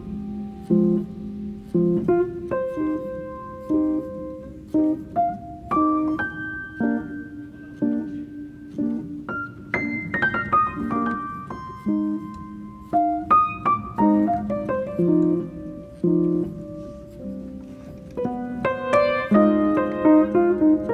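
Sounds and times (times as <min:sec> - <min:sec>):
solo piano music: 0:00.0 - 0:20.9.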